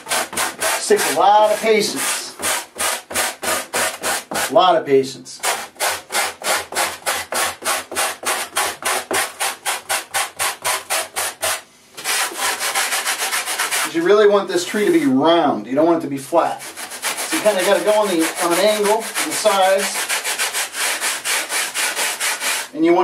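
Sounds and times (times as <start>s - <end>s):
sandpaper rubbing on wood: 0.0s - 4.6s, 5.4s - 14.1s, 16.5s - 22.8s.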